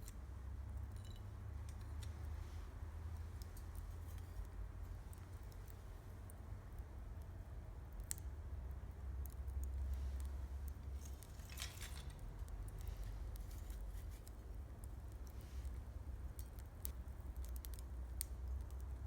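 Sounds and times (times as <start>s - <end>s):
campfire crackling and popping: 3.1s - 19.0s.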